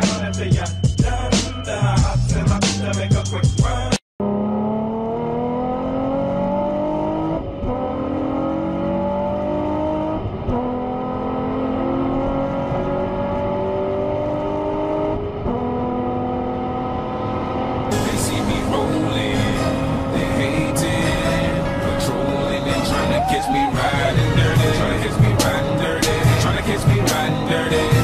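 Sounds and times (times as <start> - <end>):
car engine accelerating: 4.2 - 28.0.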